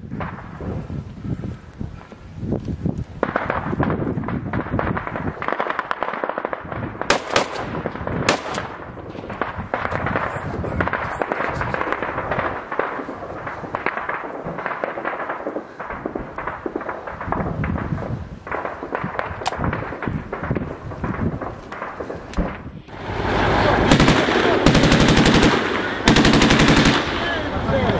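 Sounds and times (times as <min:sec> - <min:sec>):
loud sharp gunshots: 0:03.2 - 0:22.6, 0:23.8 - 0:27.8
rapid rifle and machine-gun fire: 0:03.2 - 0:22.6, 0:23.9 - 0:27.4.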